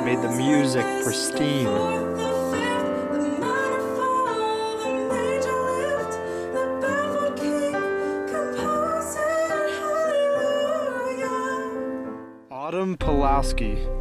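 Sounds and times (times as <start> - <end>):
woman singing slow song: 0.0 - 12.0
piano accompaniment: 0.0 - 14.0.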